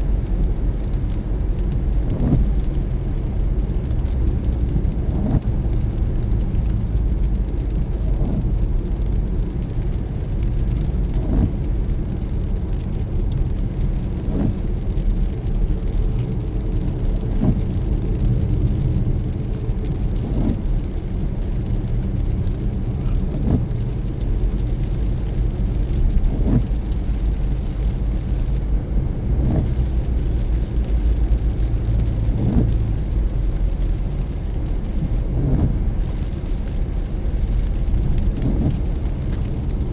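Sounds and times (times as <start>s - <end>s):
car road and engine noise: 0.0s - 39.9s
windshield wiper swish: 0.1s - 28.7s, 29.4s - 39.9s.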